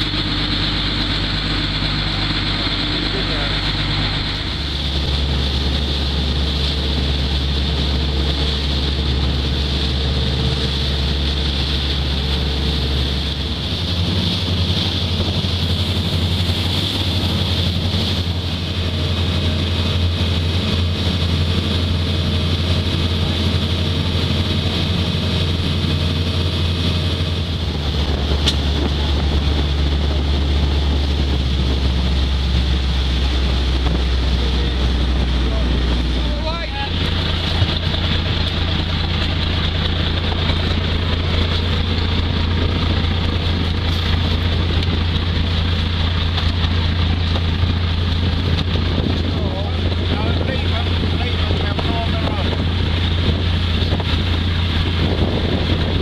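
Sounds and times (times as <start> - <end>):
boat engine droning: 0.0 - 56.0
water rushing past hull: 0.0 - 56.0
wind on microphone: 0.0 - 56.0.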